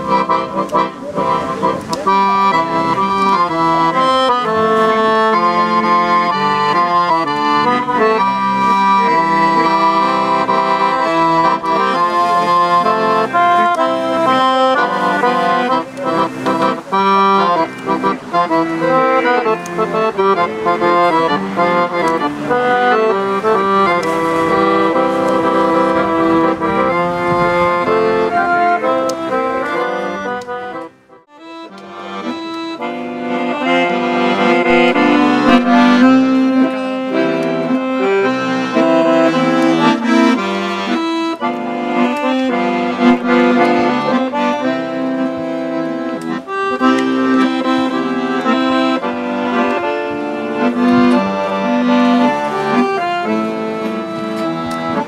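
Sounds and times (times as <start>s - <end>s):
accordion dance tune: 0.0s - 55.0s.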